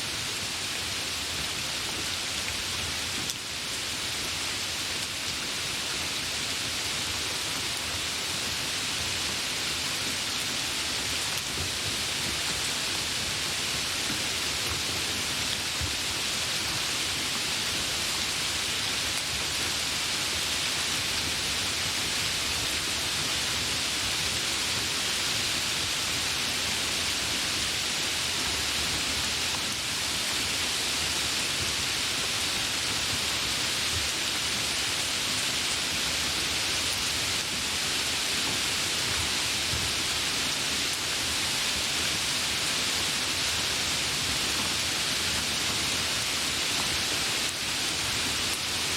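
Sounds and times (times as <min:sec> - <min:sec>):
light rain hissing: 0:00.0 - 0:48.9.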